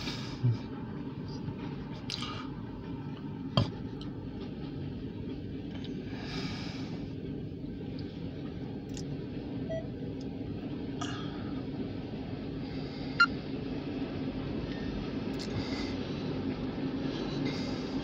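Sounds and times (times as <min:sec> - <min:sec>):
freight cars rumbling: 0:00.0 - 0:18.0.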